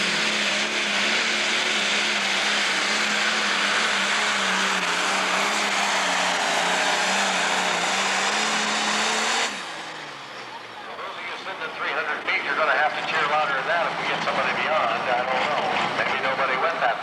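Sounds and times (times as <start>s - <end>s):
diesel tractor engine howling: 0.0s - 17.0s.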